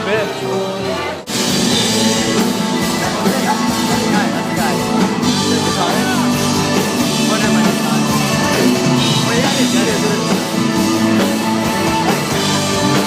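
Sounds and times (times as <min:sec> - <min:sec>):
electric guitar: 0:00.0 - 0:13.0
live rock band playing: 0:00.0 - 0:13.0
person singing: 0:00.0 - 0:13.0.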